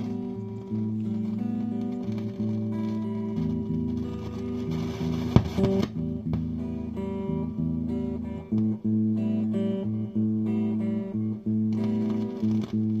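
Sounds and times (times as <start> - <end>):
clean electric guitar: 0.0 - 13.0.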